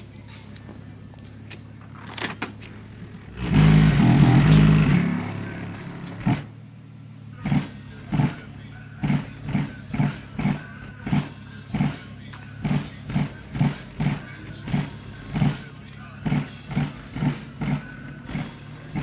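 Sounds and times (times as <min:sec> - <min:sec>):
bass-heavy music thumping: 0:00.0 - 0:06.6, 0:07.4 - 0:19.0
car engine revving: 0:01.8 - 0:19.0.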